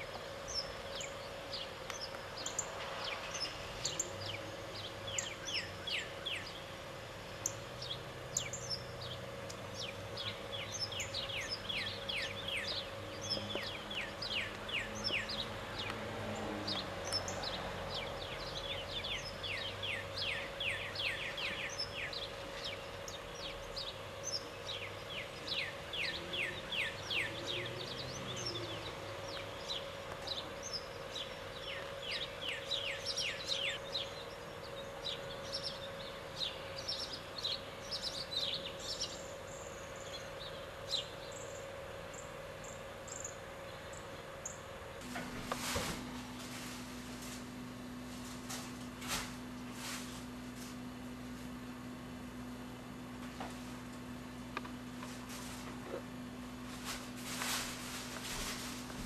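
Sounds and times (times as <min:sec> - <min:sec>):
birds chirping: 0:00.0 - 0:59.0
faint steady hum: 0:00.0 - 0:59.0.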